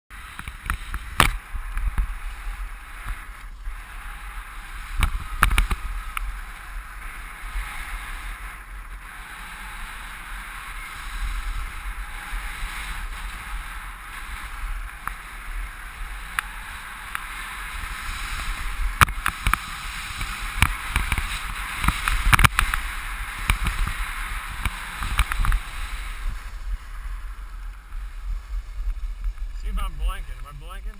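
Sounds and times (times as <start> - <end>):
skis scraping on snow: 0.1 - 30.9
wind rumbling on microphone: 0.1 - 30.9.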